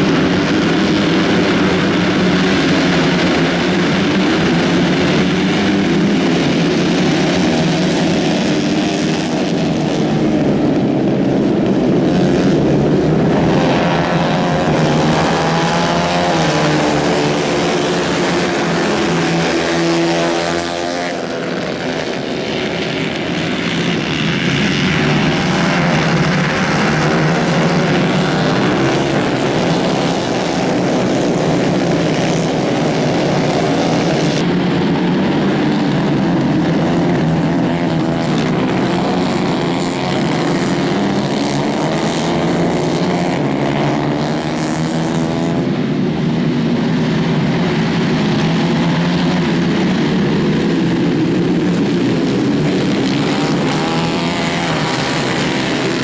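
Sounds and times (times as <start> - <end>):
racing kart engines buzzing: 0.0 - 56.0.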